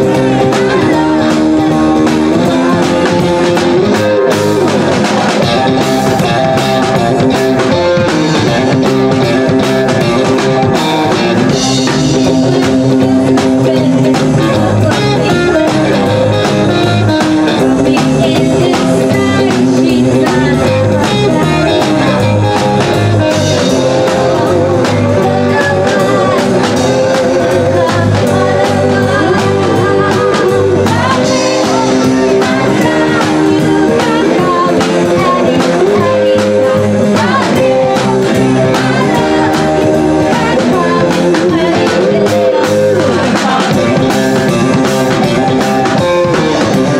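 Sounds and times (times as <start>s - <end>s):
electric guitar: 0.0s - 46.9s
rock band playing live: 0.0s - 46.9s
woman singing: 0.0s - 46.9s.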